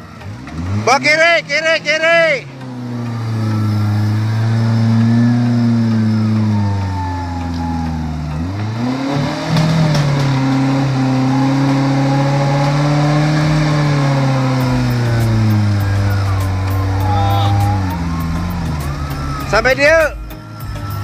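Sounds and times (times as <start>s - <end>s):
off-road engine revving under load: 0.0s - 21.0s.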